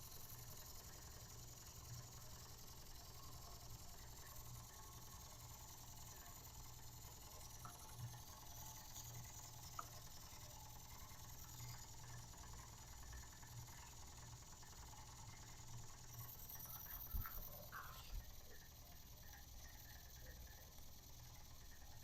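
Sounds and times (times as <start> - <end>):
toy steam engine running: 0.0 - 22.0.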